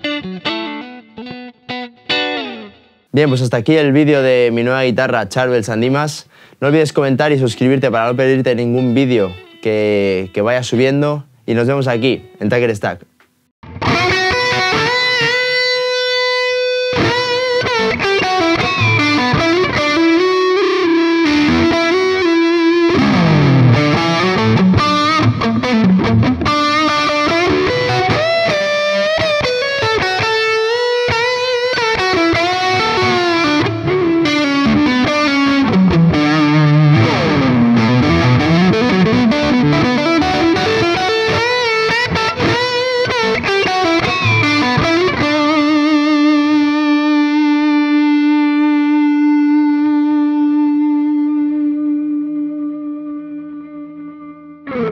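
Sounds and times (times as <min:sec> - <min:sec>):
distorted electric guitar: 0:00.0 - 0:03.7, 0:13.2 - 0:54.9.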